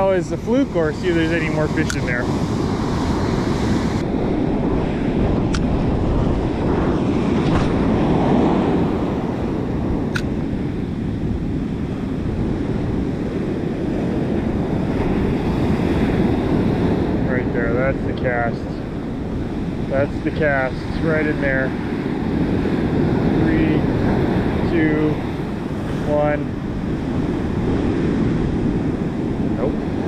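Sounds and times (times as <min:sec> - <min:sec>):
ocean surf breaking on beach: 0:00.0 - 0:30.0
wind buffeting microphone: 0:00.0 - 0:30.0.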